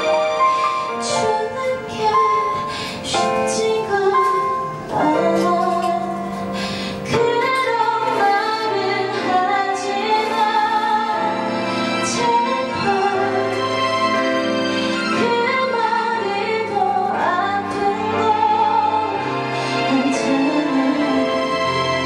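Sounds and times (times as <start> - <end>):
instrumental accompaniment: 0.0 - 22.0
woman singing into microphone: 0.9 - 13.8, 15.1 - 21.7.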